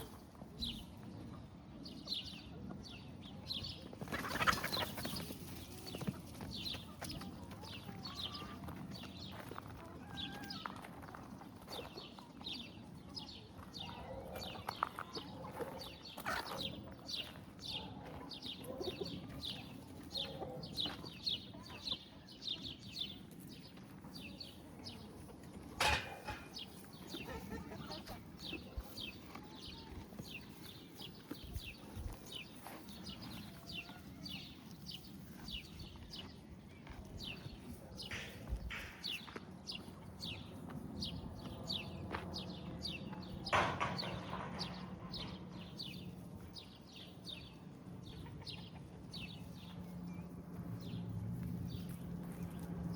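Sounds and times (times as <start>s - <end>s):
low clucking bird calls: 0.0s - 51.0s
birds chirping: 0.0s - 52.9s.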